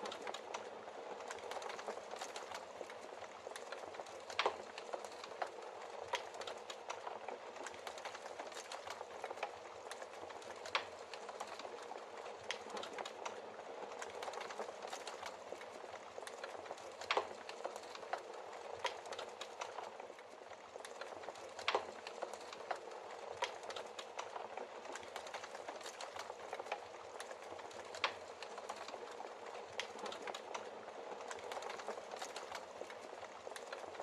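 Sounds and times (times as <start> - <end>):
soft hiss of flames: 0.0 - 34.0
wood fire crackling and popping: 0.0 - 34.0.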